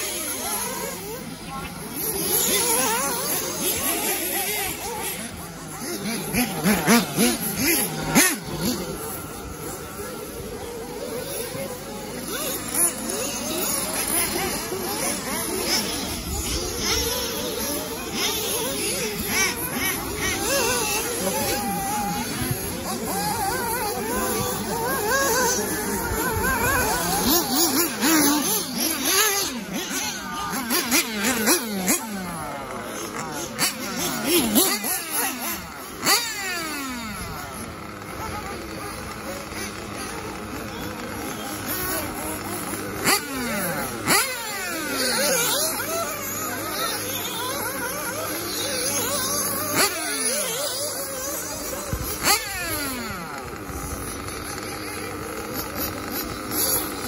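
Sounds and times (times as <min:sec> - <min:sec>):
rc buggy engines revving: 0:00.0 - 0:57.0.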